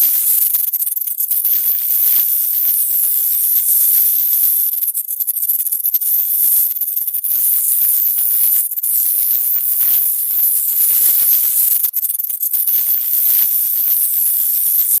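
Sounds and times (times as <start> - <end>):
shrill rattling insect chitter: 0.0 - 15.0.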